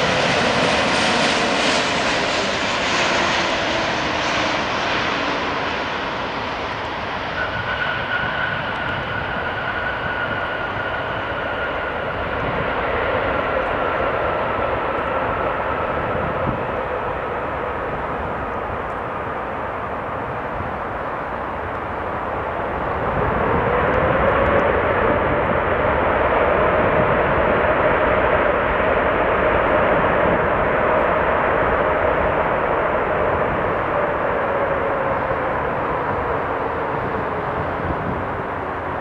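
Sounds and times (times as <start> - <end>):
jet engine whine: 0.0 - 39.0
jet engines rumbling: 0.0 - 39.0.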